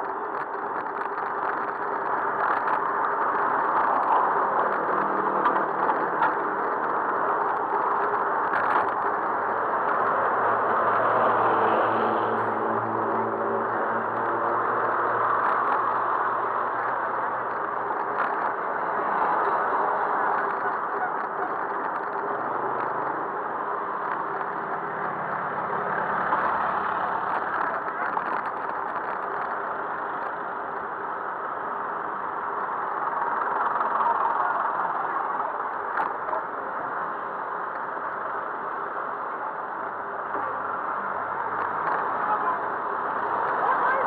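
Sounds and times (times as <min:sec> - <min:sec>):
road traffic engines: 0:00.0 - 0:44.0.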